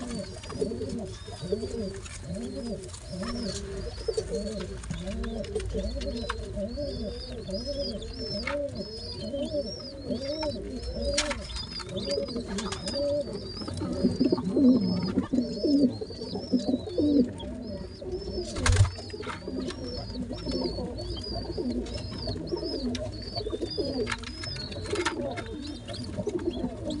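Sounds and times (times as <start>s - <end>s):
low warbling of pigeons: 0.0s - 27.0s
pigeon squabs squeaking: 0.0s - 27.0s.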